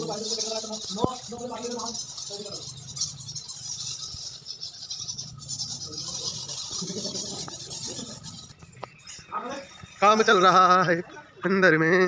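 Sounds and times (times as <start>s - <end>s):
bats chittering: 0.0s - 12.0s.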